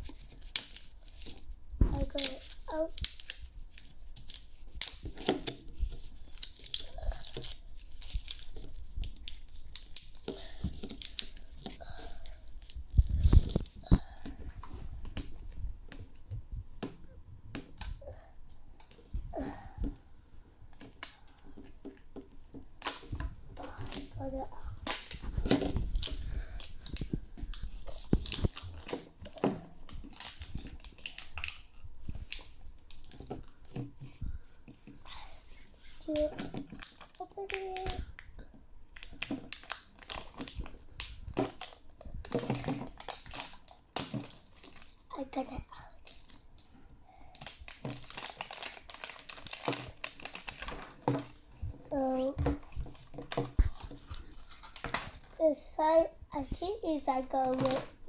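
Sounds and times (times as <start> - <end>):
packaging crinkling and tearing: 0.0 - 13.9, 22.6 - 34.1, 35.1 - 55.7, 56.9 - 58.0.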